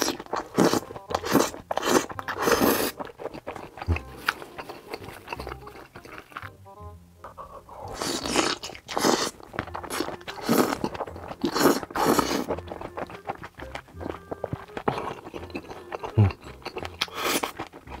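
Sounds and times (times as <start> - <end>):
noodles slurped: 0.0 - 6.4, 7.9 - 18.0
wet chewing and mouth smacking: 0.0 - 6.6, 7.3 - 18.0.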